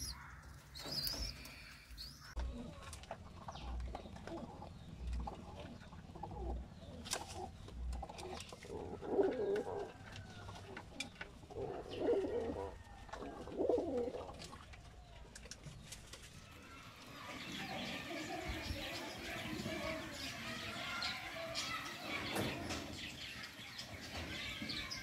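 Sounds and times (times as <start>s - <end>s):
pigeons cooing: 0.0s - 14.6s, 16.6s - 25.0s.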